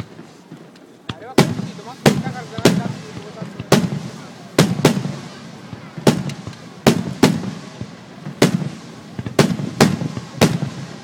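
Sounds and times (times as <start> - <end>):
firework shells booming: 0.0 - 11.0.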